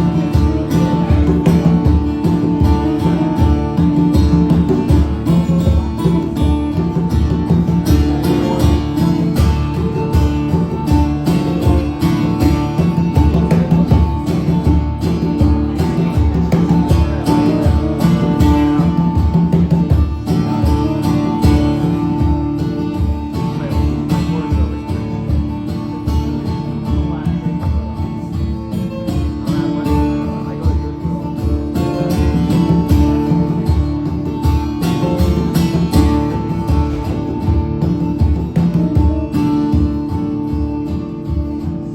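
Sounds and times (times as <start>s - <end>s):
guitar: 0.0s - 41.9s
live band playing: 0.0s - 41.9s
steady drum beat: 0.0s - 41.9s.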